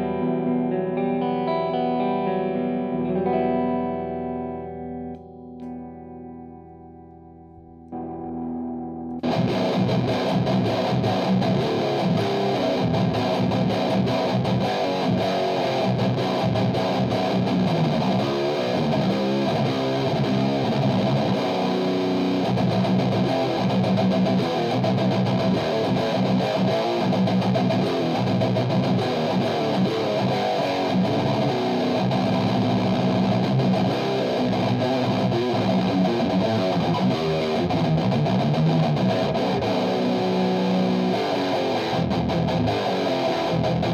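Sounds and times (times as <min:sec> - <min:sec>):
distorted electric guitar: 0:00.0 - 0:43.9.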